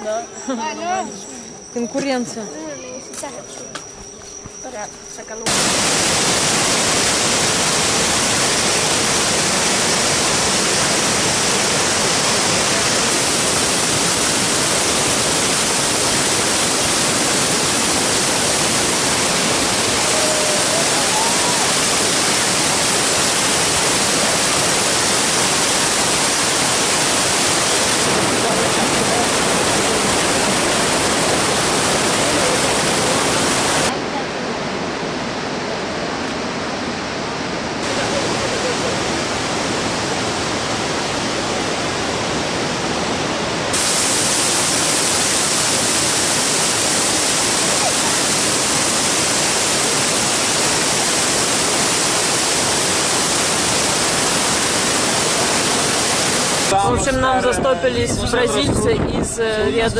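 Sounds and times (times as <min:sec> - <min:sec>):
waterfall rushing: 0:05.5 - 0:57.1.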